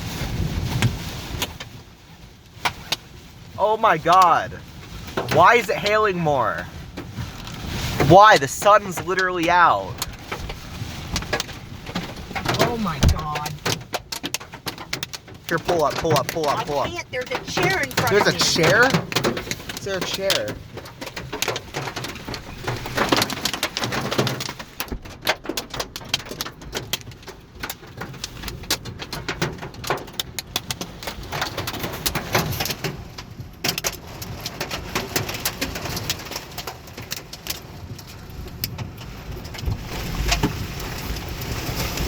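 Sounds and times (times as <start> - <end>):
hail hitting car roof: 0.0 - 42.0.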